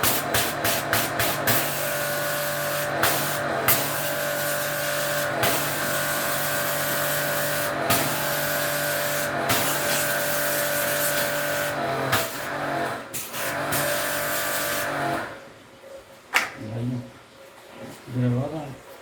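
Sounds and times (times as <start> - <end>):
machine running with hiss and hum: 0.0 - 15.4.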